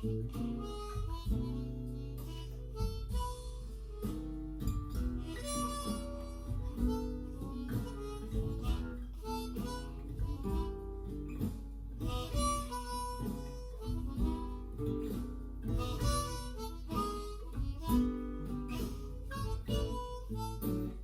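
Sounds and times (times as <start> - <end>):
blues harmonica: 0.0 - 21.0
strummed acoustic guitar: 0.0 - 21.0.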